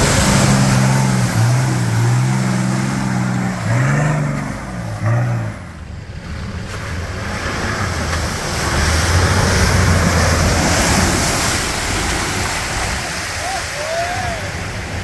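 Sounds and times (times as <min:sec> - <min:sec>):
vehicle engine droning: 0:00.0 - 0:13.2
muddy water splashing: 0:00.0 - 0:13.8.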